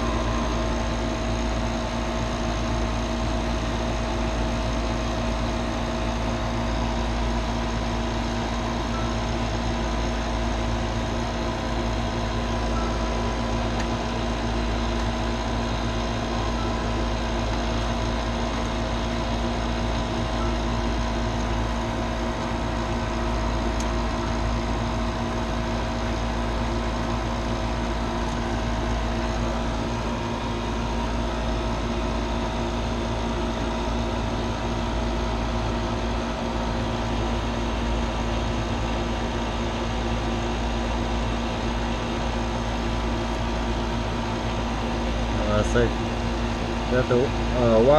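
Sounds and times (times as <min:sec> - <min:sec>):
vacuum pump humming: 0:00.0 - 0:47.9.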